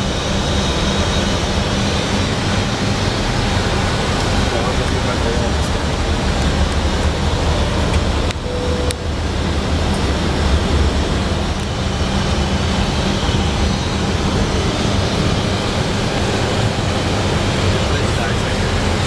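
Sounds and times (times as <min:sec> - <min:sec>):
low drone: 0:00.0 - 0:19.0
rush of air over cockpit: 0:00.0 - 0:19.0.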